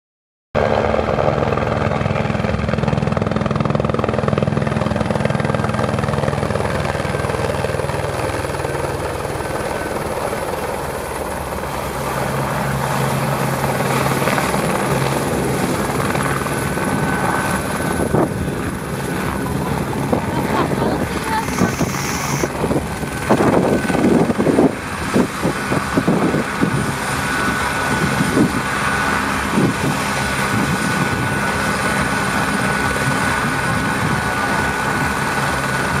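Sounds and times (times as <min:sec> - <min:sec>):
helicopter rotor blades beating: 0:00.6 - 0:36.0
turbine rush: 0:04.5 - 0:36.0
thin turbine whine: 0:06.7 - 0:36.0.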